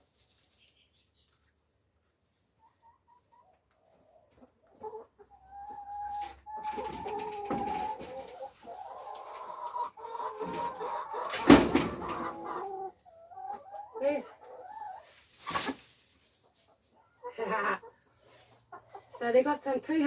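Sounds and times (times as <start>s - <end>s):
hens clucking: 0.4s - 20.0s.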